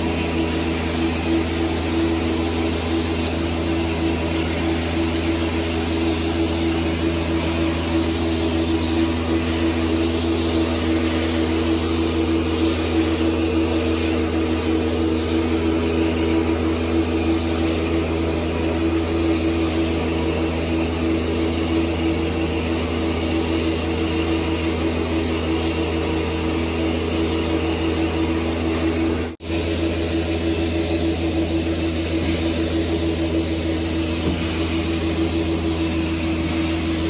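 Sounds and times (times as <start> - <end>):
carpet cleaning machine motor drone: 0.0 - 37.0
suction hiss: 0.0 - 37.0.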